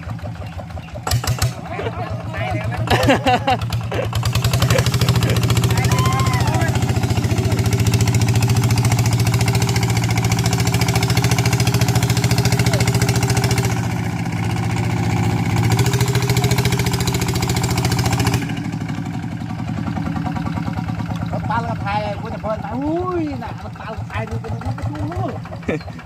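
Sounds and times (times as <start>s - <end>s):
tractor diesel engine thumping: 0.0s - 26.0s.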